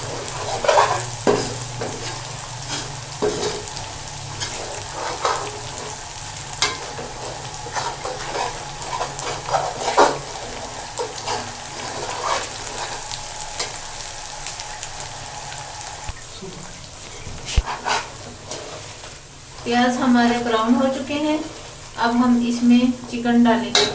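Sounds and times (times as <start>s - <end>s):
utensil scraping pan: 0.0s - 14.6s, 17.0s - 23.9s
onions sizzling in oil: 0.0s - 23.9s.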